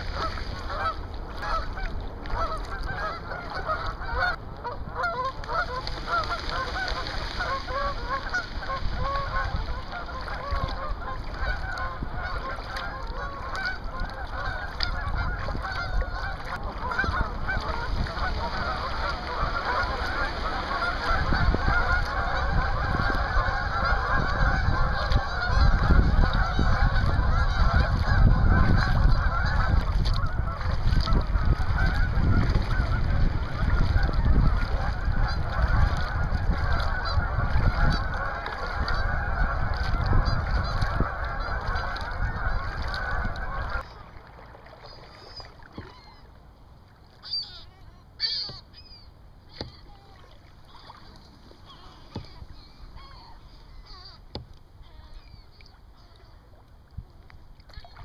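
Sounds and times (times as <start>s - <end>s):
geese honking: 0.0s - 43.9s, 47.2s - 49.9s, 50.6s - 56.3s.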